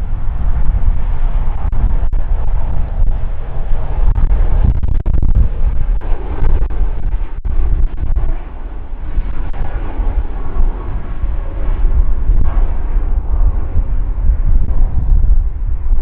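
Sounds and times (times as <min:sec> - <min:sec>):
jet engines roaring at takeoff: 0:00.0 - 0:16.0.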